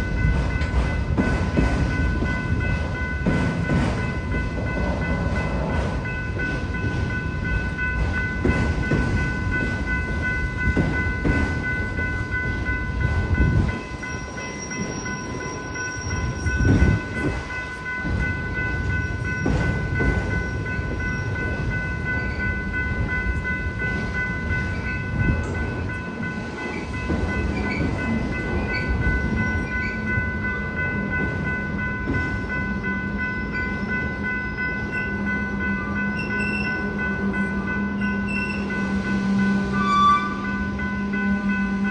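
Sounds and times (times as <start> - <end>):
crossing bell ringing: 0.0 - 41.9
freight train rumbling: 0.0 - 41.9.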